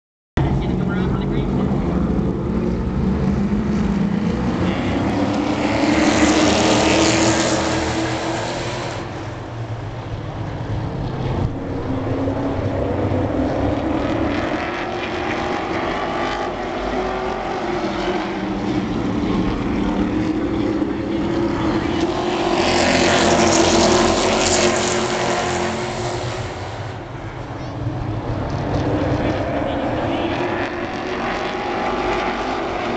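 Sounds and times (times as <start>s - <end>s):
race truck engines passing: 0.4s - 32.9s.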